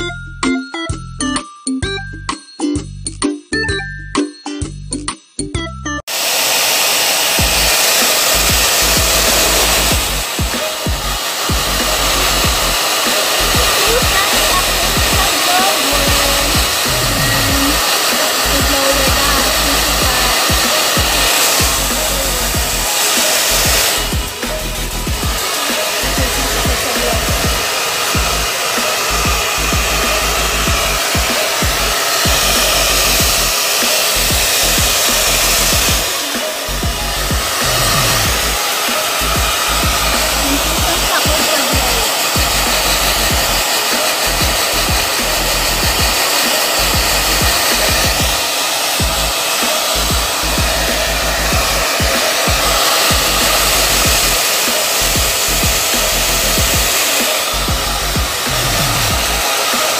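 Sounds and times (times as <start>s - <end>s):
hair dryer blowing: 6.1s - 59.9s.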